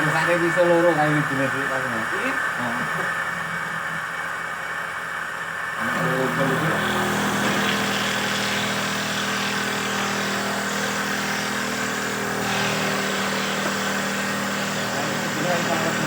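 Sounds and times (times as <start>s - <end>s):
wood machine motor humming: 0.0s - 16.0s.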